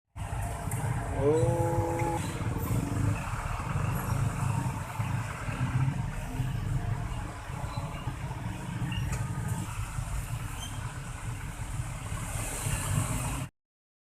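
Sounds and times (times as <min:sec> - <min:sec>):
low rumble of vehicle engines: 0:00.2 - 0:13.5
road traffic noise: 0:00.2 - 0:13.5.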